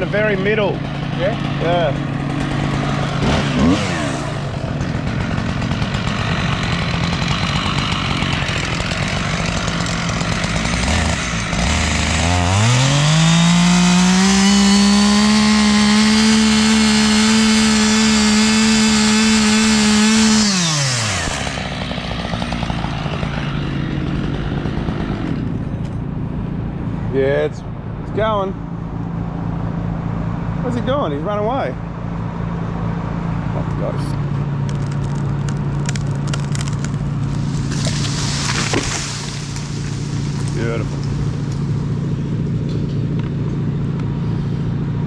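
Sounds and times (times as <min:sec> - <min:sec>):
chainsaw idling and revving: 0:00.0 - 0:25.9, 0:34.7 - 0:45.0.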